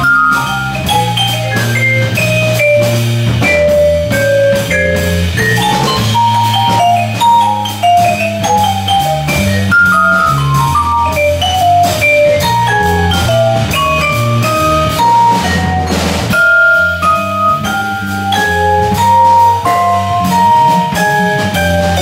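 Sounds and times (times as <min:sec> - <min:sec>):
bass line: 0:00.0 - 0:22.0
drum kit: 0:00.0 - 0:22.0
vibraphone solo: 0:00.0 - 0:22.0.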